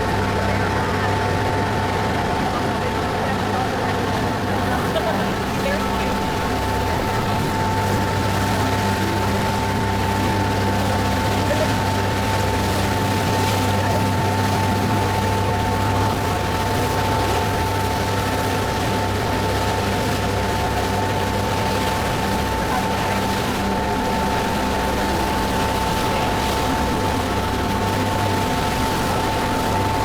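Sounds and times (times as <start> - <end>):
ferry engines droning: 0.0 - 30.0
water wash: 0.0 - 30.0.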